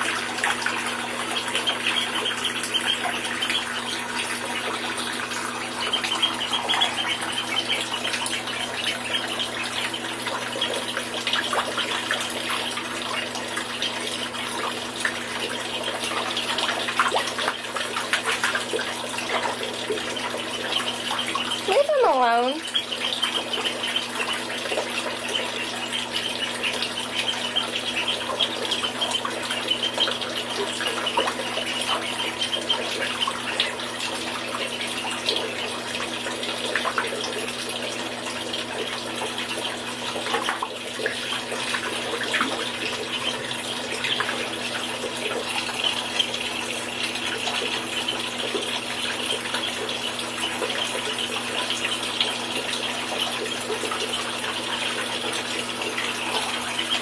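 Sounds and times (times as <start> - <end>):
water running from tap into bathtub: 0.0 - 57.0.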